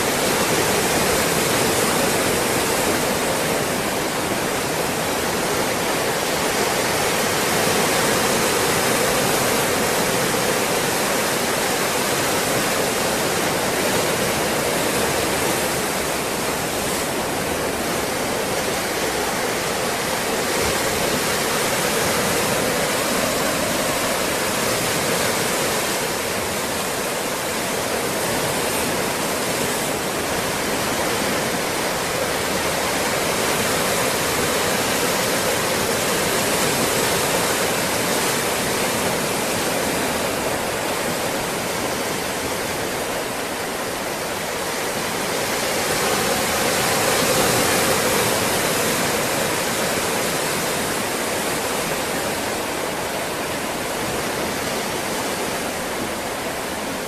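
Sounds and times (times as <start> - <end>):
ocean waves washing: 0.0 - 57.0.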